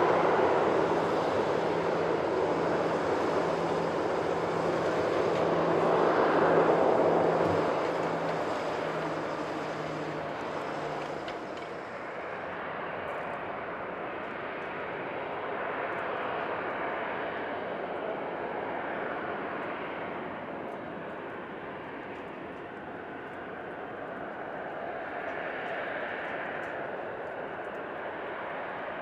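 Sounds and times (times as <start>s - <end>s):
jet engines at taxi power: 0.0s - 29.0s.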